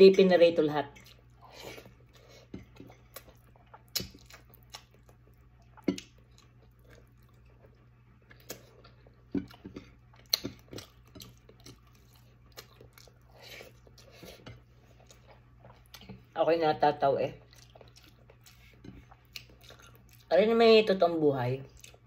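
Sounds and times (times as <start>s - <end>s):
faint low hum: 0.0s - 22.0s
person chewing and eating: 0.9s - 16.4s, 17.4s - 20.3s, 21.7s - 22.0s.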